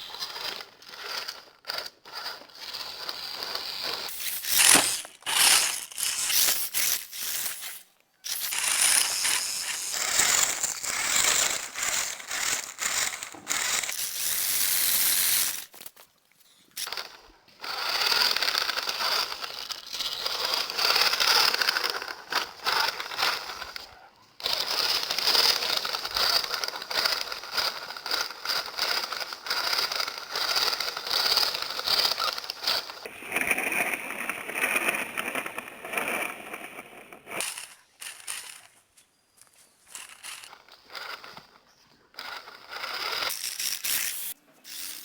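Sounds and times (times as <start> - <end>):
toy car electric motor whirring: 0.0 - 45.0.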